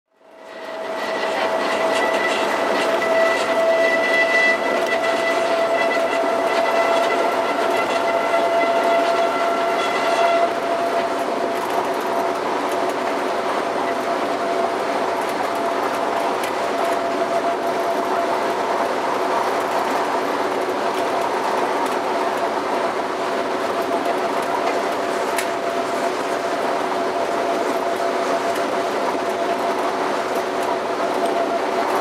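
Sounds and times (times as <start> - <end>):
electric train rushing noise: 0.2 - 32.0.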